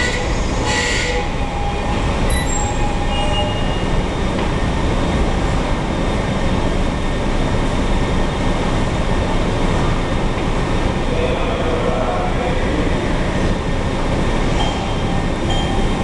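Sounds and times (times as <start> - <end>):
subway train running noise: 0.0 - 16.0.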